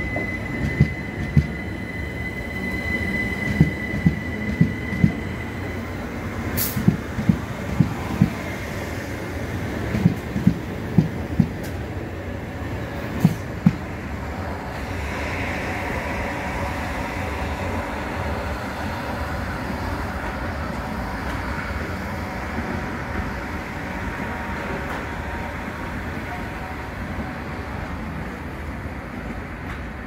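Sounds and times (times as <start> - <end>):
electric train hum: 0.0 - 30.0
train wheels rumbling on rails: 0.0 - 30.0.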